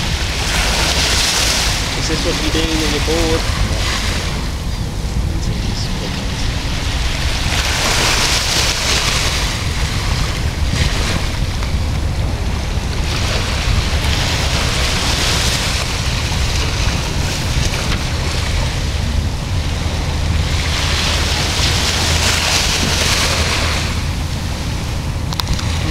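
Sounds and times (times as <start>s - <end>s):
small waves washing on sand: 0.0s - 25.9s
wind rumble on microphone: 0.0s - 25.9s.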